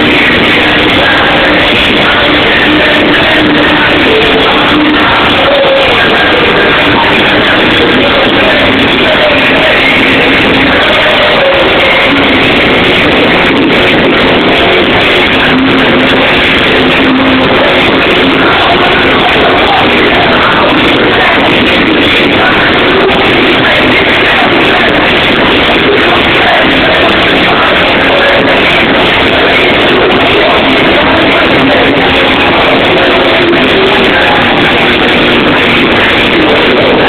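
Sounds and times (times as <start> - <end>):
loud distorted nightclub music: 0.0 - 37.0.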